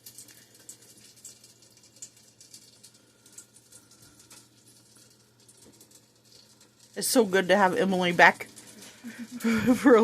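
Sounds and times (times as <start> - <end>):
faint sizzling oil crackles: 0.0 - 10.0.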